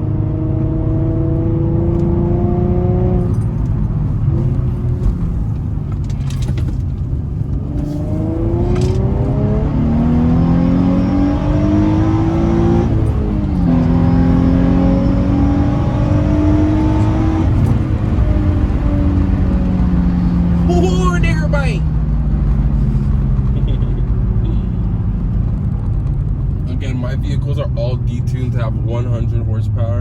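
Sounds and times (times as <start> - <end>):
car engine accelerating hard: 0.0 - 30.0.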